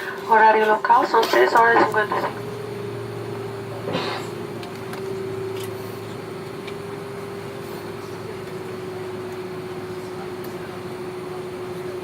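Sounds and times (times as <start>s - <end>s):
airplane cabin droning hum: 0.0s - 12.0s.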